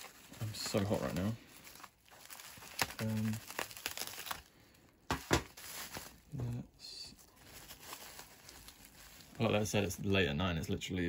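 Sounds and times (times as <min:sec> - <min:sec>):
bubble wrap crinkling and tearing: 0:00.0 - 0:10.9.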